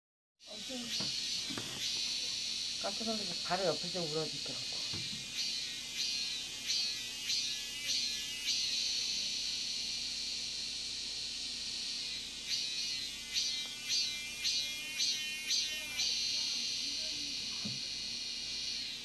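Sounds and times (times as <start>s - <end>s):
cicada buzzing: 0.4s - 19.0s.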